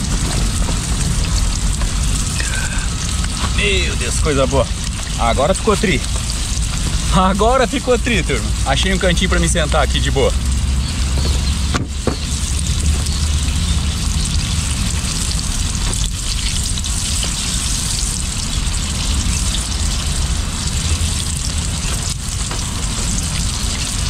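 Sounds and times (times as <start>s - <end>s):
fish frying in hot oil: 0.0s - 24.0s
low rumble: 0.0s - 24.0s.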